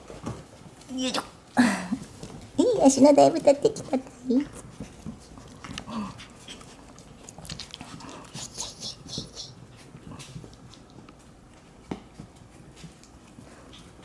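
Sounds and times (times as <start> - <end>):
paws tapping on floor: 1.9 - 14.0.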